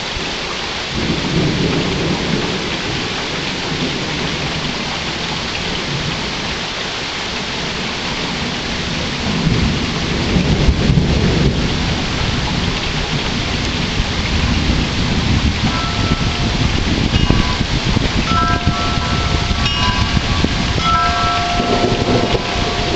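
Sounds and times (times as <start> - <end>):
steady rain: 0.0 - 22.9
low rumble of thunder: 0.9 - 6.6, 7.5 - 22.9.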